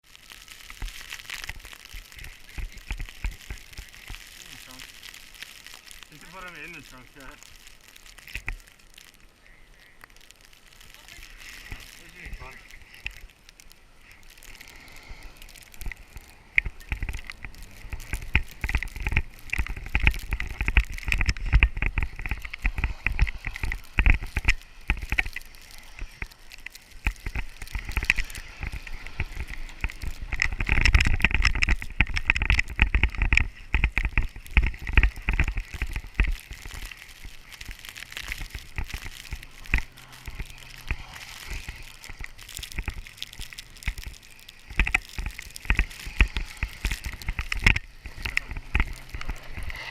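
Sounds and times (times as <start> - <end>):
tyres churning through snow: 0.0 - 49.9.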